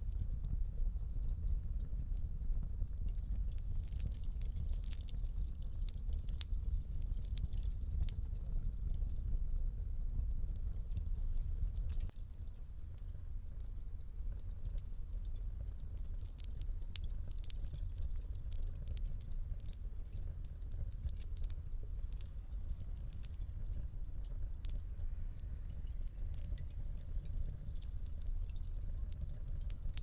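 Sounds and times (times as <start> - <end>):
flames rumbling: 0.0 - 30.0
wood fire crackling: 0.0 - 30.0.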